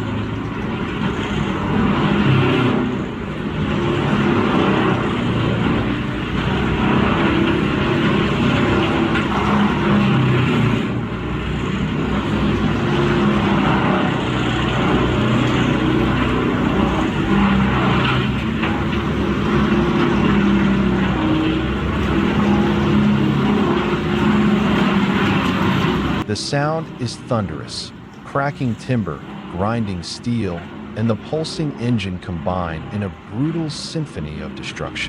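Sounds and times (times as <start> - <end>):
wood grinder engine droning: 0.0 - 35.0.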